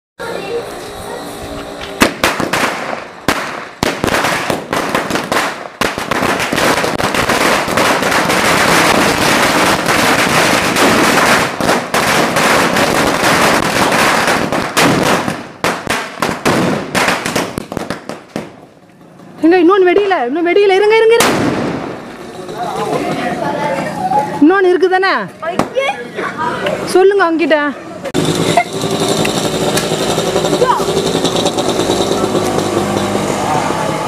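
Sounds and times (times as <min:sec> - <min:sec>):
firecrackers crackling and banging: 0:01.8 - 0:24.0, 0:28.1 - 0:34.0.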